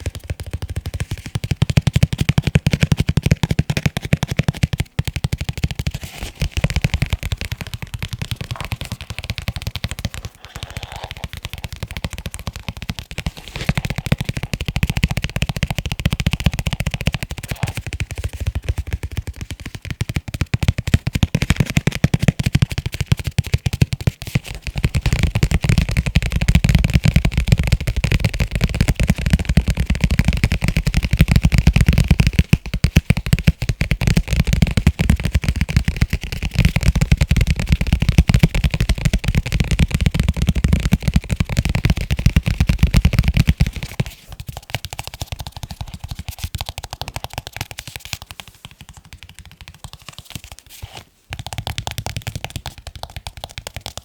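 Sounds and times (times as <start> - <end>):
fingers tapping on leather cases: 0.0 - 50.6, 51.3 - 54.0.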